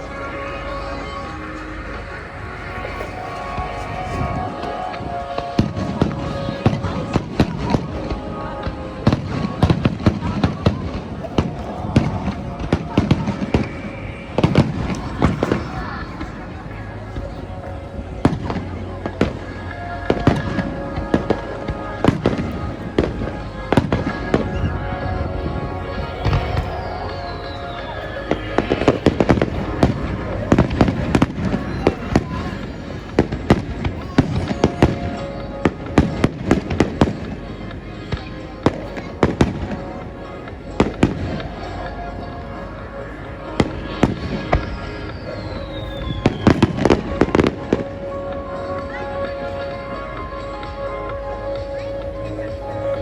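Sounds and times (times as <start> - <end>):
firework crackling: 0.0 - 49.9
music playing: 0.0 - 53.0.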